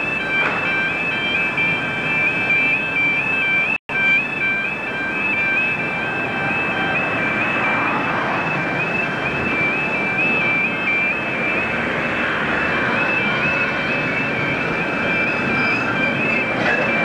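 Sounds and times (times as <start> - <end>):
level crossing alarm warbling: 0.0 - 17.0.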